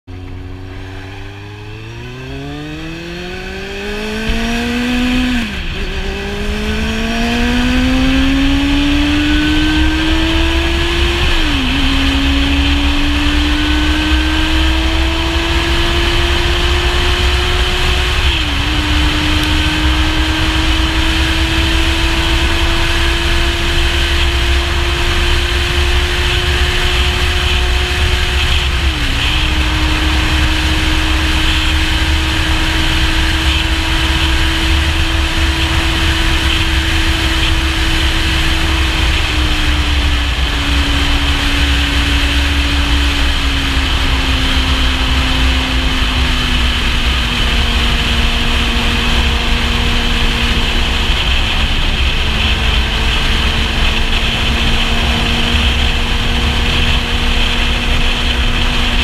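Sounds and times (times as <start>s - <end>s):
motorcycle engine accelerating: 0.0s - 59.0s
wind rush on microphone: 0.6s - 59.0s.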